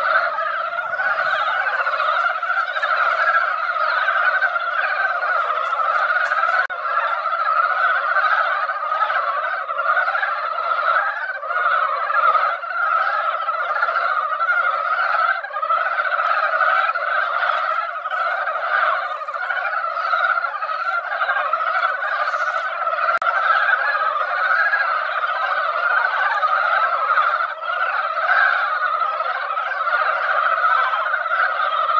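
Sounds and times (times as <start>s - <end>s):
frog chorus: 0.0s - 31.9s.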